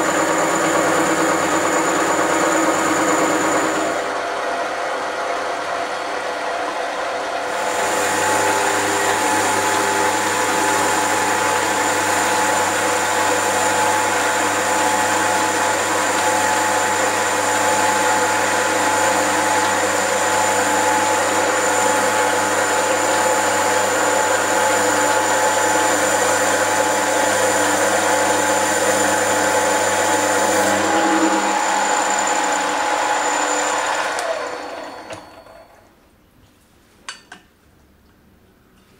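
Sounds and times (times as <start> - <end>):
lathe cutting metal bar: 0.0 - 5.5, 7.4 - 35.6.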